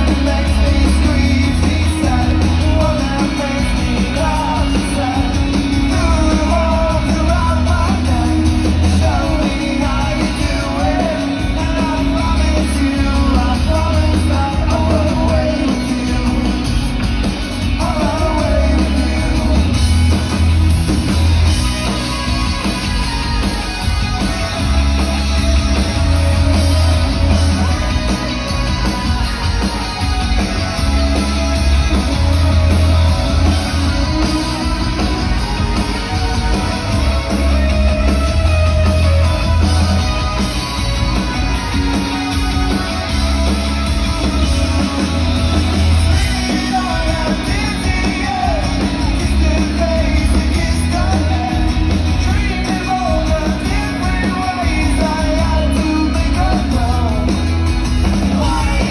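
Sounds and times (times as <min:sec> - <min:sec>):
person singing: 0:00.0 - 0:17.0, 0:17.6 - 0:20.2, 0:25.7 - 0:58.9
live rock band playing: 0:00.0 - 0:58.9.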